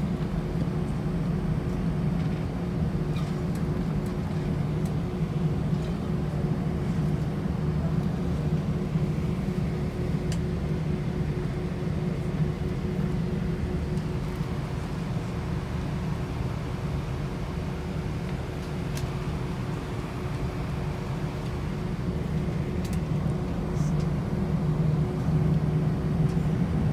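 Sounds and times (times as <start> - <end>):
aircraft cabin engine hum: 0.0 - 26.9.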